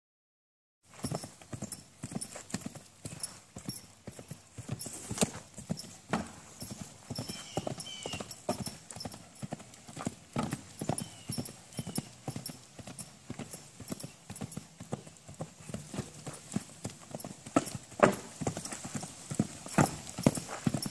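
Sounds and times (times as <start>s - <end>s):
horse hooves thudding on dirt: 0.9s - 20.9s.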